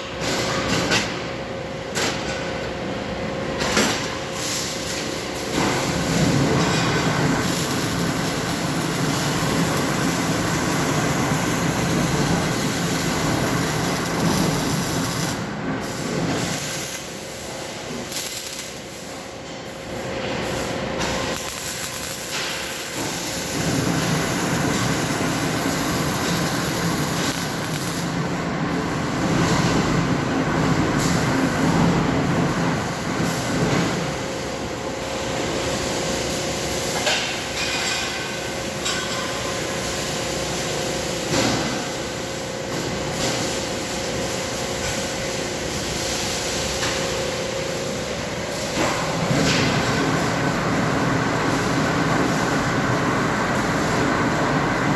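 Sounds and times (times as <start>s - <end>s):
welding line rumble and hiss: 0.2s - 54.9s.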